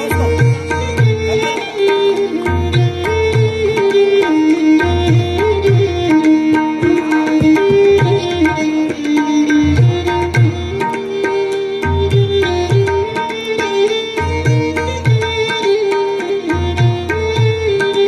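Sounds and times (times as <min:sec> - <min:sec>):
tabla strokes: 0:00.0 - 0:18.0
violin slow melody: 0:00.0 - 0:18.0.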